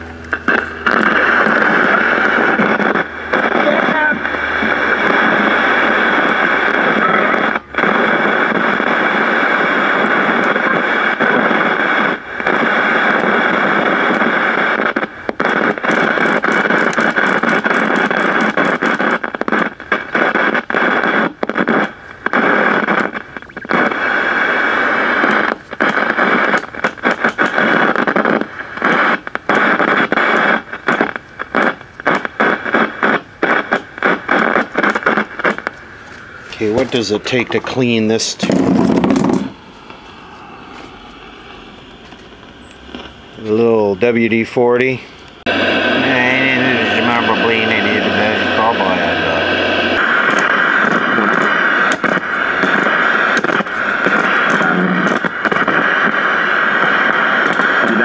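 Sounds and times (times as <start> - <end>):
static crackles: 0.0 - 58.0
television static hissing: 0.1 - 58.0.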